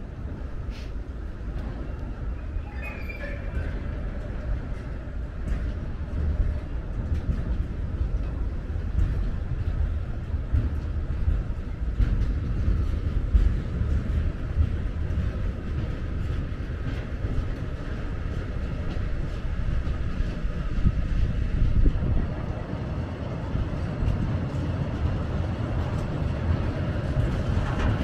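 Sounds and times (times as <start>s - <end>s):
freight train wheels rumbling on rail: 0.0s - 28.0s
sharp clicks of train wheels: 3.5s - 28.0s.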